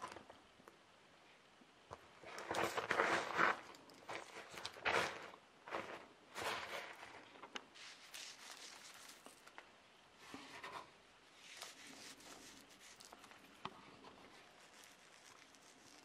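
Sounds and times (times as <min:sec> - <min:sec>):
salt sprinkling and rustling: 0:02.2 - 0:16.0.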